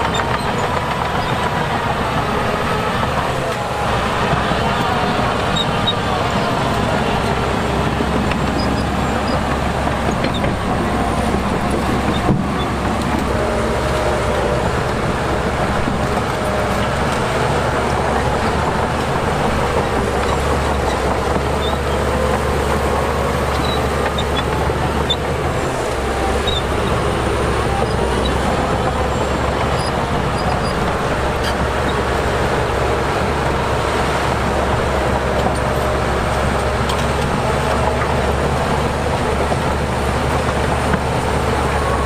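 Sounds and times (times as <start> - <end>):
heavy machinery diesel engines: 0.0 - 42.0.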